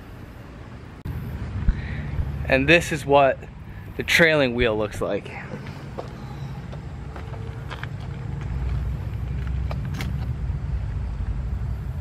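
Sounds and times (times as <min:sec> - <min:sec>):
car engine idling: 0:01.1 - 0:12.0.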